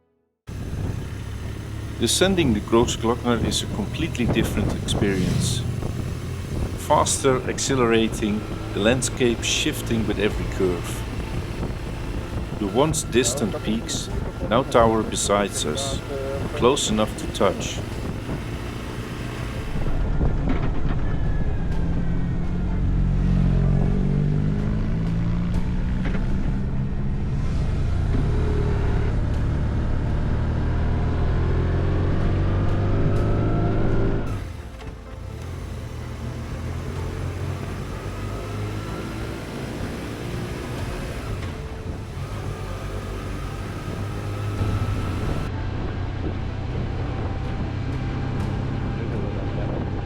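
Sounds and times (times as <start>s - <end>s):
motorcycle engine running under load: 0.5s - 20.3s, 22.3s - 32.8s, 33.6s - 50.0s
road and wind noise: 0.5s - 50.0s.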